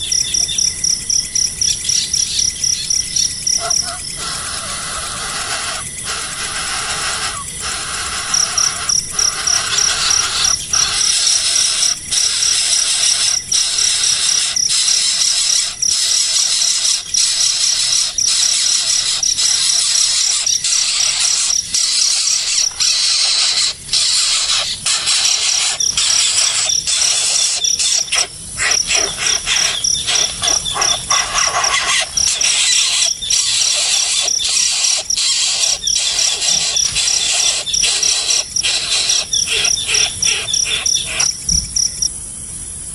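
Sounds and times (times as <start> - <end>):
baby birds hissing squeal: 3.6 - 41.4.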